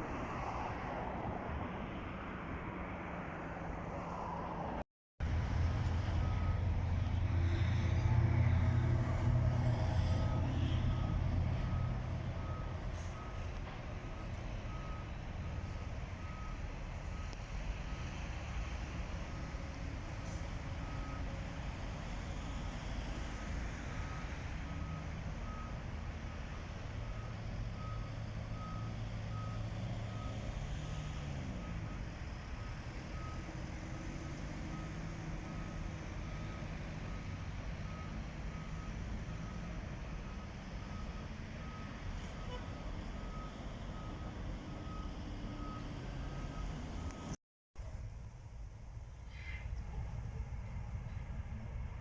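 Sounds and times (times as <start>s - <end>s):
diesel engine rumble: 1.2s - 52.0s.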